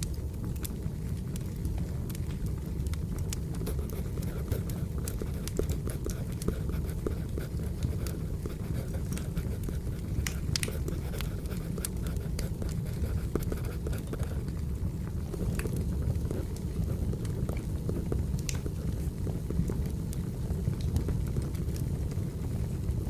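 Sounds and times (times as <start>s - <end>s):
crackles and pops of burning logs: 0.0s - 23.0s
wood fire rumbling: 0.0s - 23.0s.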